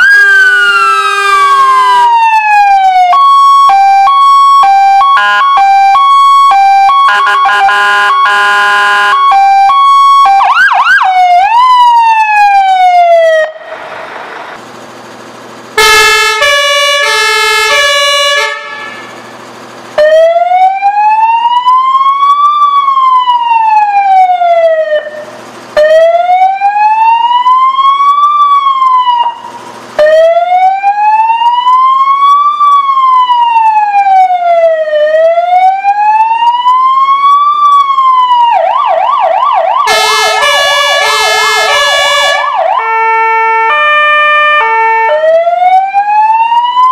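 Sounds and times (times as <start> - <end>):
fire engine electronic sirens: 0.0 - 46.9.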